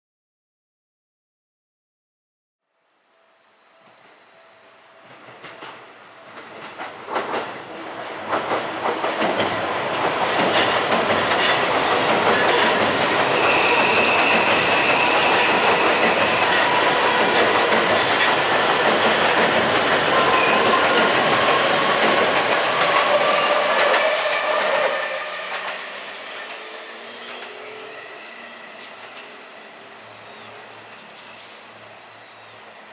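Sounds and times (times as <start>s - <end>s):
train wheels rumbling on bridge: 5.0s - 31.7s.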